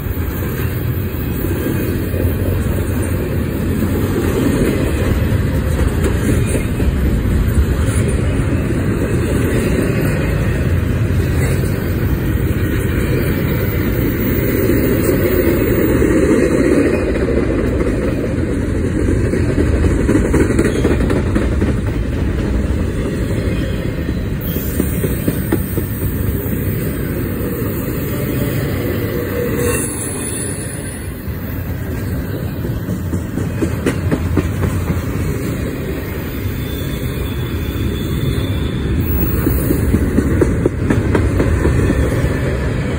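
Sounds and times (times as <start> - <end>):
freight train rumbling: 0.0 - 42.9
wheels clacking on rails: 0.0 - 42.9.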